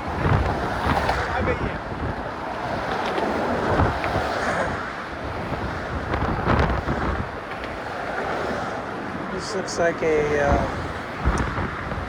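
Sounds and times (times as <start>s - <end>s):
traffic rumble: 0.0s - 12.0s
wind buffeting microphone: 0.0s - 12.0s.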